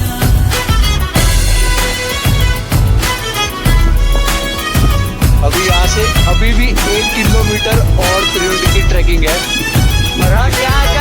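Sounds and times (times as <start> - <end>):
instrumental pop music with drum beat: 0.0 - 11.0.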